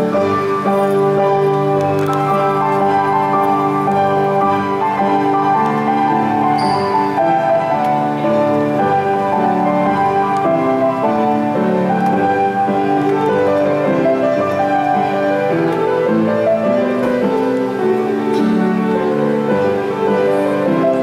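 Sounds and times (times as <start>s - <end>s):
keyboard music with sustained chords: 0.0s - 21.0s.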